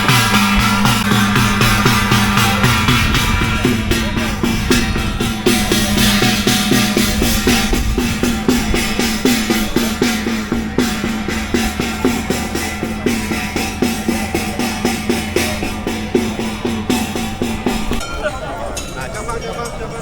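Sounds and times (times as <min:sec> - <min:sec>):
fast steady drumbeat: 0:00.0 - 0:18.1
held music tones: 0:00.0 - 0:20.0.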